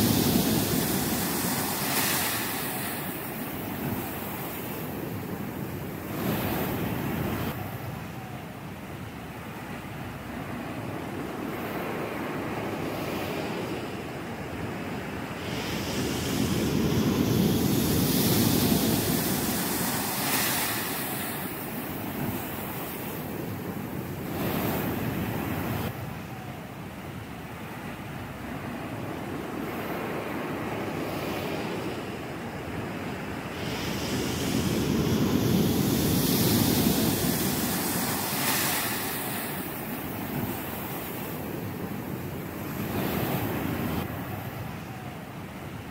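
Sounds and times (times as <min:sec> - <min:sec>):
ocean waves breaking: 0:00.0 - 0:08.0, 0:09.2 - 0:26.2, 0:26.9 - 0:45.9.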